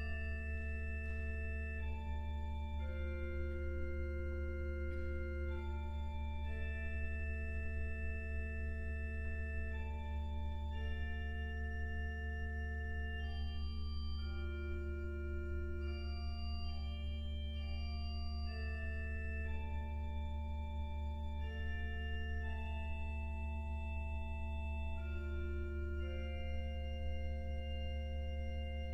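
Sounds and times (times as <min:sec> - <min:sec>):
pipe organ playing slow passage: 0:00.0 - 0:28.9.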